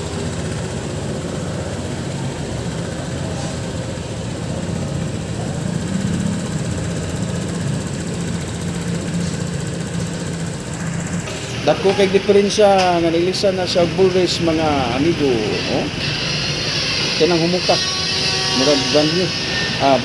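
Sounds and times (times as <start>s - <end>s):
scooter engine idling: 0.0s - 16.6s.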